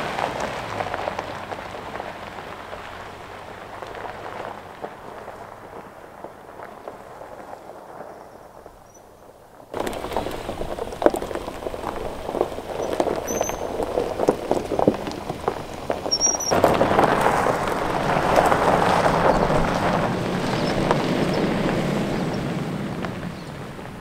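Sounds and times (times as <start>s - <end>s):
truck low rumble: 0.0s - 24.0s
tyres crunching on gravel: 0.0s - 24.0s.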